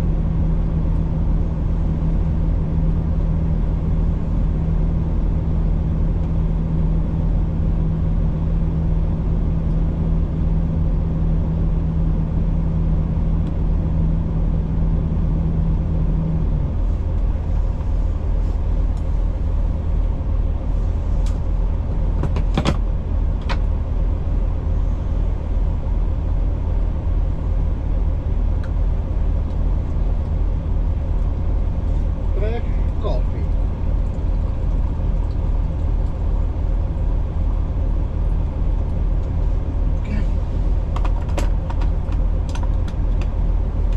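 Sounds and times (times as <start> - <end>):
diesel engine droning: 0.0 - 43.9
steady hum: 0.0 - 43.9.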